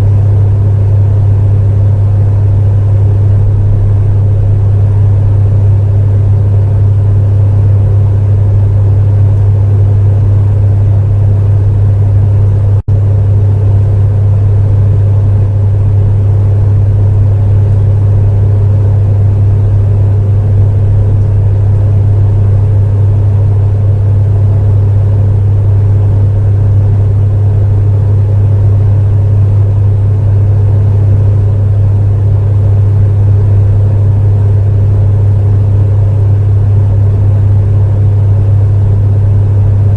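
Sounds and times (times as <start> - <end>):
space heater humming: 0.0 - 39.9.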